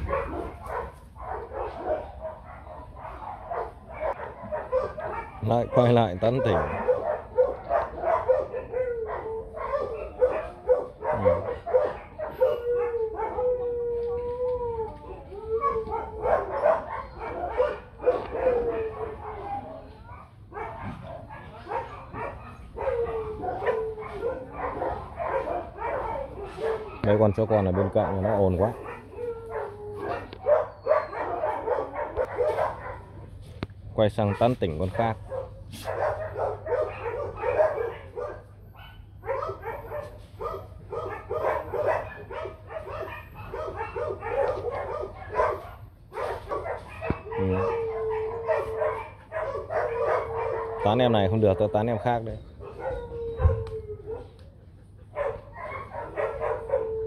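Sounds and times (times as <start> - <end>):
puppies yipping and whining: 0.0 - 33.2, 35.0 - 57.0.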